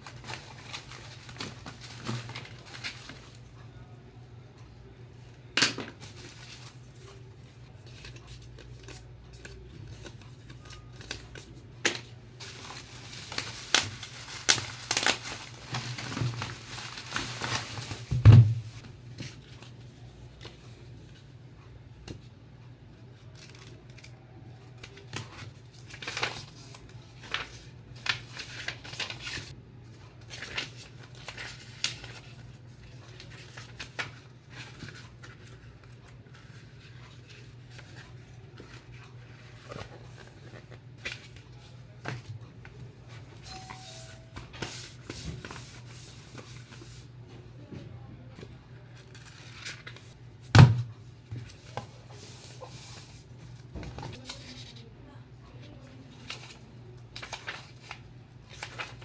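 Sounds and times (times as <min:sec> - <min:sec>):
handling books and packaging: 0:00.0 - 0:21.3, 0:23.0 - 0:59.0.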